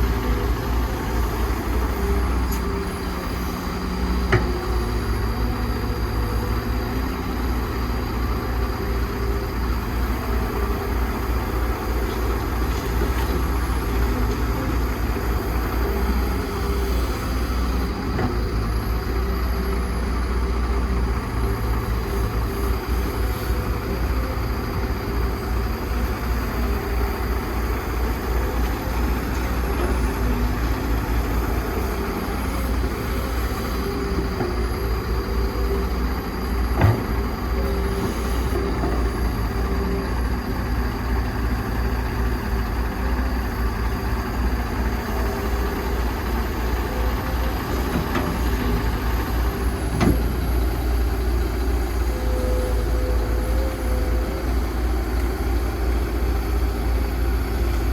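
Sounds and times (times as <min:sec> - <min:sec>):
excavator diesel engine rumbling: 0:00.0 - 0:57.9.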